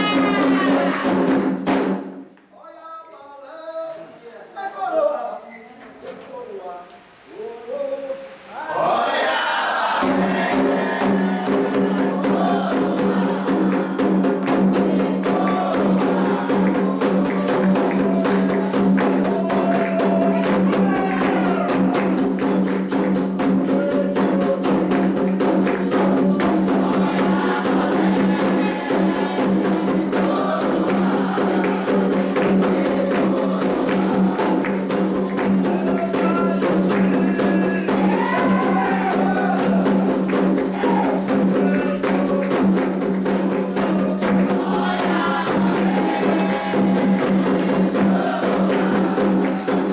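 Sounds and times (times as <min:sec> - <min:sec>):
fast hand-drum strokes: 0:00.0 - 0:02.3, 0:08.8 - 0:49.9.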